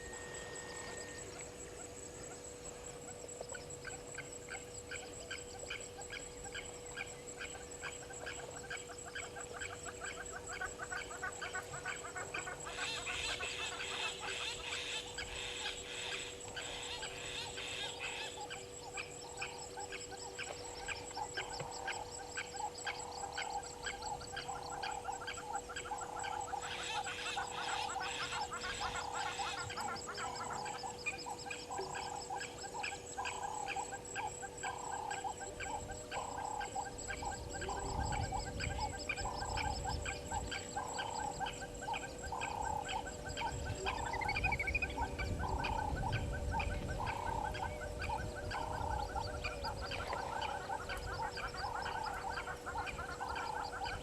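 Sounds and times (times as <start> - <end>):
faint high drone: 0.0 - 54.0
chattering bird calls: 3.5 - 54.0.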